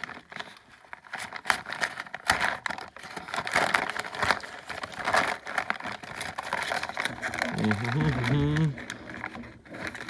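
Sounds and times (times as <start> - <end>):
paper bag crinkling: 0.0 - 10.0.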